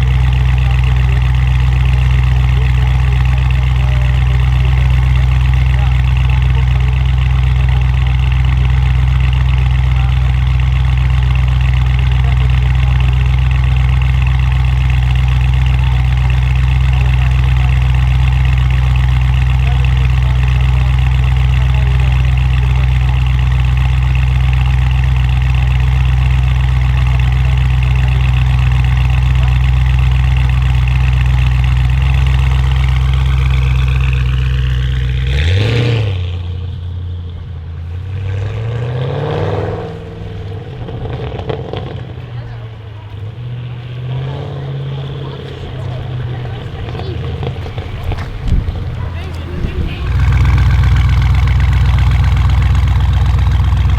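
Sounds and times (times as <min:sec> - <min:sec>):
car engine idling: 0:00.0 - 0:38.2, 0:39.8 - 0:53.9.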